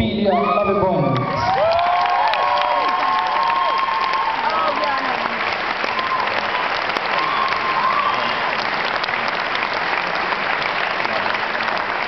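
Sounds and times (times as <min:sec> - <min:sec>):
large audience applauding: 0:01.0 - 0:12.0.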